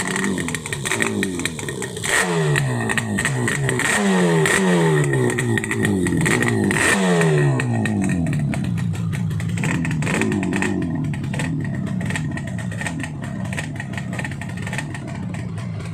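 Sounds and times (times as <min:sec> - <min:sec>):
two-stroke motorcycle engine revving: 0:00.0 - 0:15.9.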